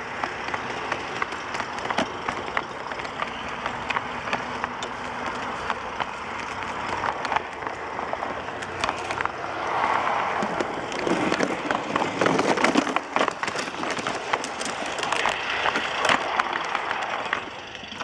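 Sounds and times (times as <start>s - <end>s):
model train wheels rolling: 0.0s - 18.0s
wheels clicking over rail joints: 0.0s - 18.0s.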